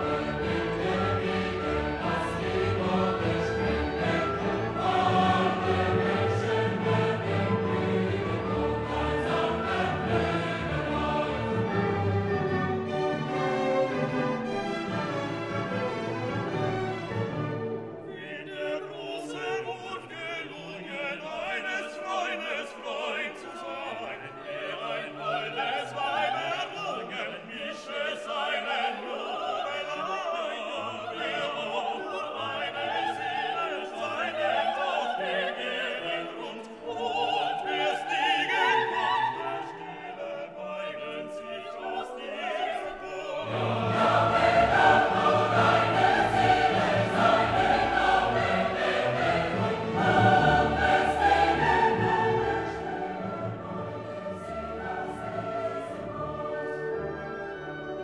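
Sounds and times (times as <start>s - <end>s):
choral singing with orchestra: 0.0s - 58.0s.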